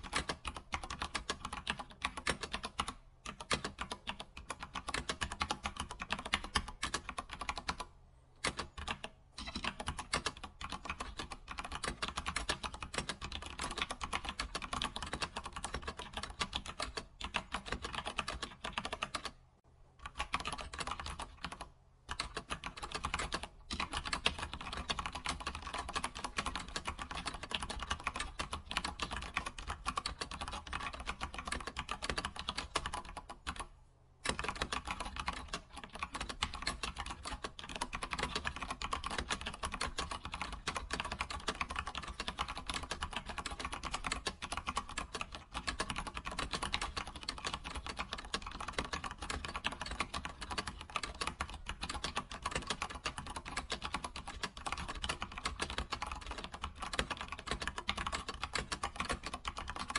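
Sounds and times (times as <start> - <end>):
keyboard typing: 0.0 - 19.4, 20.0 - 59.9.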